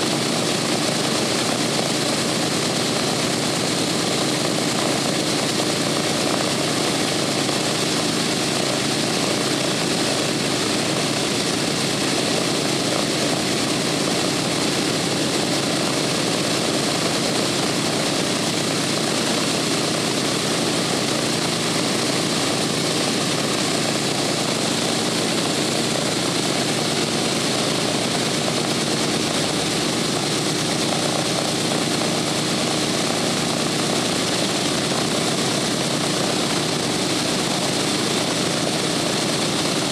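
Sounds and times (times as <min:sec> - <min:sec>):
propeller drone: 0:00.0 - 0:39.9
radial aircraft engines running: 0:00.0 - 0:39.9.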